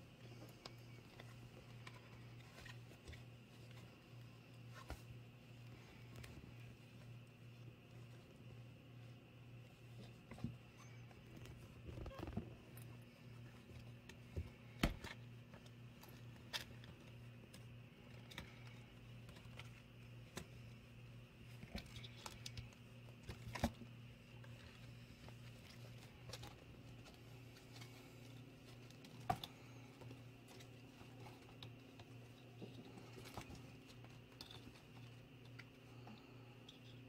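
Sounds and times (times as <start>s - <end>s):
kittens rustling and scrabbling: 0.0s - 37.0s
steady low hum: 0.0s - 37.0s.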